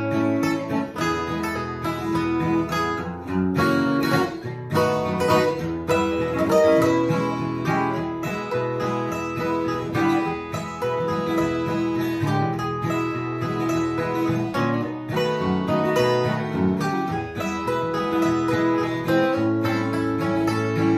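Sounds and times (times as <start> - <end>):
acoustic guitar picking and strumming: 0.0 - 20.9.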